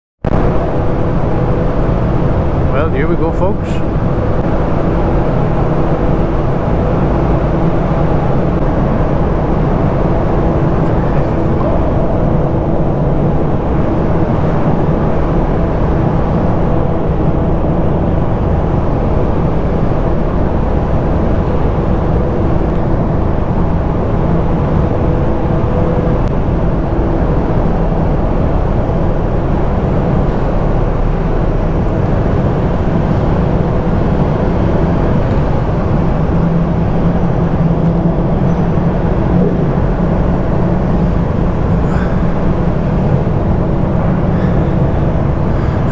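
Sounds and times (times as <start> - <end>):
engine low rumble: 0.2 - 45.9
faint steady drone: 0.2 - 45.9.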